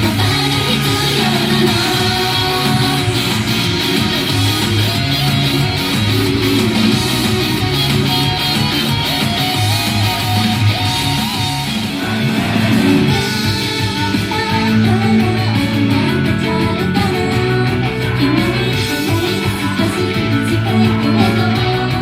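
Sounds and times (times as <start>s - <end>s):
guitars: 0.0s - 22.0s
pop-rock song with singing: 0.0s - 22.0s
steady drum beat: 0.0s - 22.0s.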